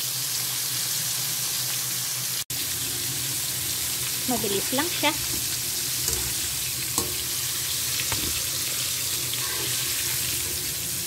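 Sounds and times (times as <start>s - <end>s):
shrimp deep-frying in oil: 0.0s - 11.0s.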